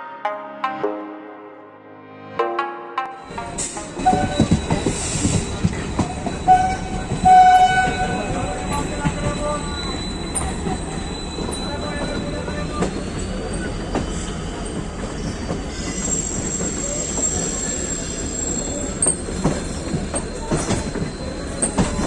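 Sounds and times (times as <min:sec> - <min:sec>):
train wheels rumbling: 0:03.4 - 0:22.0
high-pitched wheel squeal: 0:04.2 - 0:22.0.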